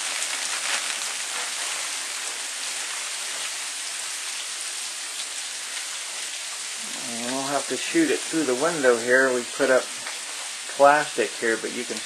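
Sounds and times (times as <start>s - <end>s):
hail pattering on surfaces: 0.0s - 12.0s.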